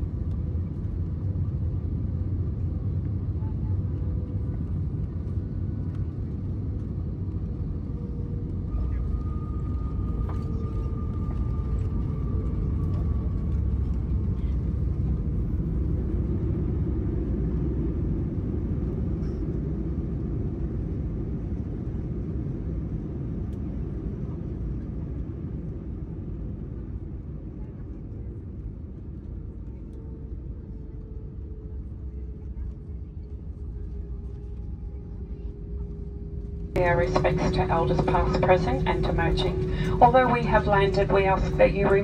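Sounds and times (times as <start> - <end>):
airplane cabin engine rumble: 0.0 - 42.0
faint engine whine: 0.0 - 42.0.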